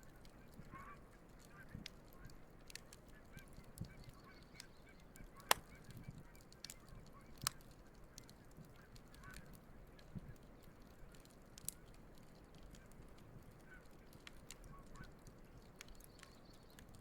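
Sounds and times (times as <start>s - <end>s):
campfire crackling and popping: 0.0s - 17.0s
geese honking faintly: 0.2s - 10.0s, 12.8s - 16.8s.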